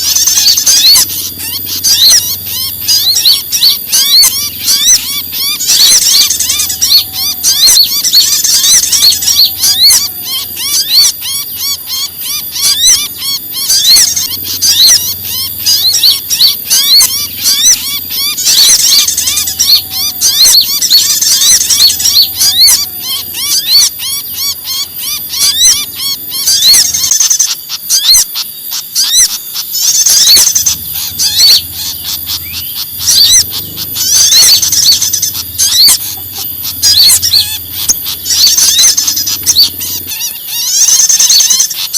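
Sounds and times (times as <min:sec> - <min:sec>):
songbirds alarm chirps: 0:00.0 - 0:41.9.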